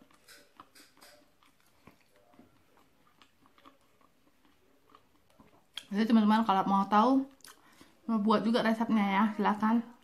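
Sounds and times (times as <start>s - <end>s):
chewing and mouth sounds: 0.0s - 8.1s.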